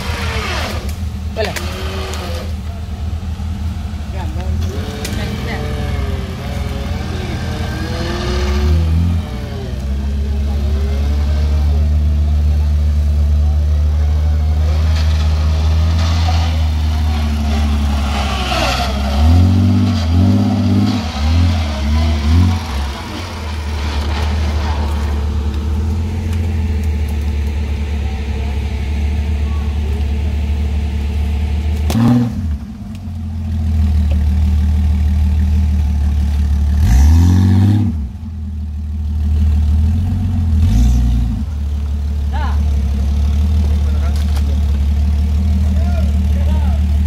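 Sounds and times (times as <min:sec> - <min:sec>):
off-road vehicle engine revving: 0:00.0 - 0:47.0.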